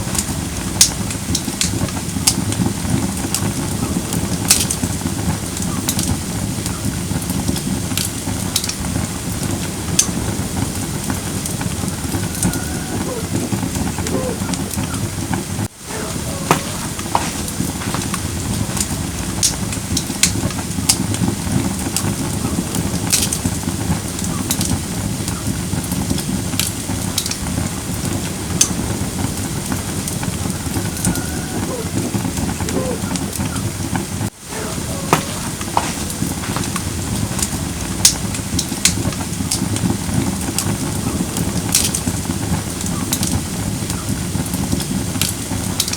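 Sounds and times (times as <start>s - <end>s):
fire crackles and pops: 0.0s - 45.9s
low rush of flames: 0.0s - 45.9s.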